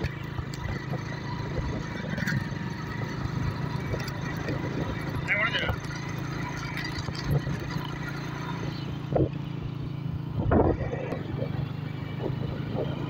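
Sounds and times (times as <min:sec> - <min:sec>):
motorcycle engine cruising: 0:00.0 - 0:13.0
road and wind noise: 0:00.0 - 0:13.0.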